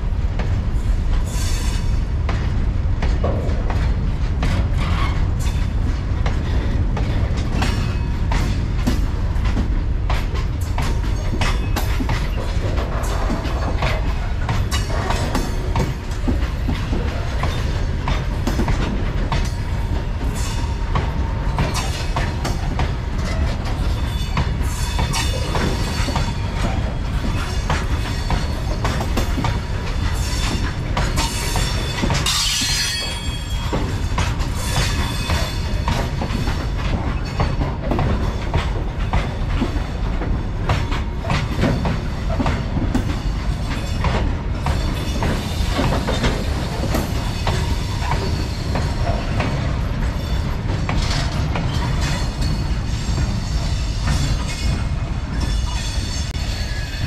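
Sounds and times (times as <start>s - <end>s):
train wheels rumbling on rail: 0.0s - 57.0s
clatter over rail joints: 0.4s - 57.0s.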